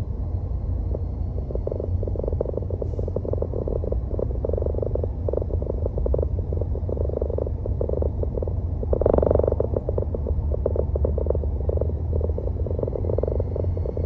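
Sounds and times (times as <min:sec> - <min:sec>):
car road and engine hum: 0:00.0 - 0:14.0
rapid buzzing rattle: 0:00.7 - 0:14.0.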